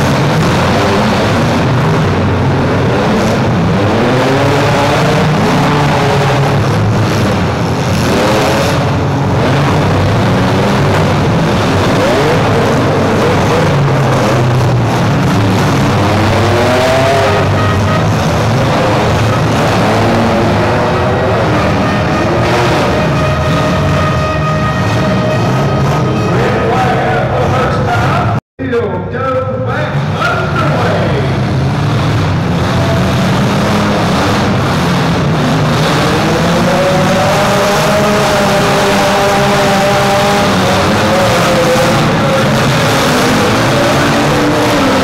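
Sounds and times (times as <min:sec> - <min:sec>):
car engines revving: 0:00.0 - 0:45.0.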